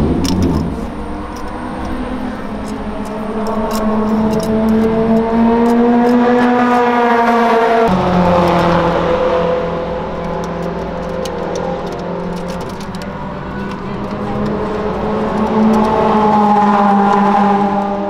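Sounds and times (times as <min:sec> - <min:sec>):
race car engine revving and idling: 0:00.0 - 0:18.0.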